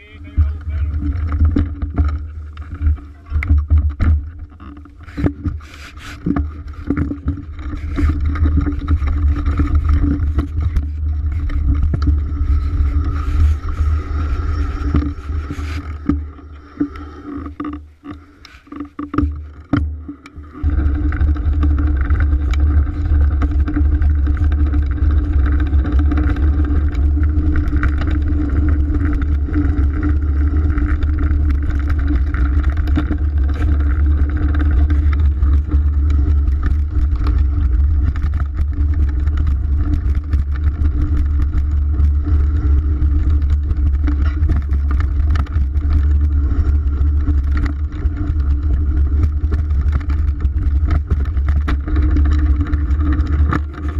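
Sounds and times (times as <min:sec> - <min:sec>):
bike knocks and rattles: 0:00.0 - 0:16.3, 0:20.6 - 0:53.9.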